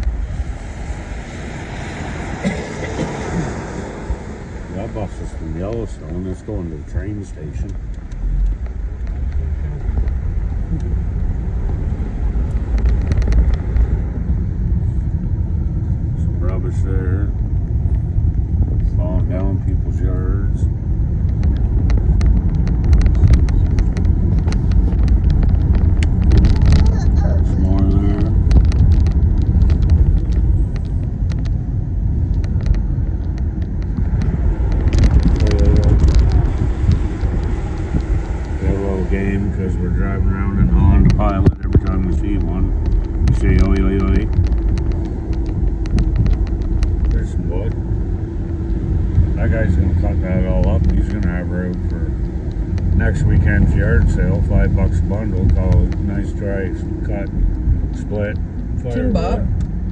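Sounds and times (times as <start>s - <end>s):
car engine rumble: 0.0s - 59.9s
tyres on the road: 0.0s - 59.9s.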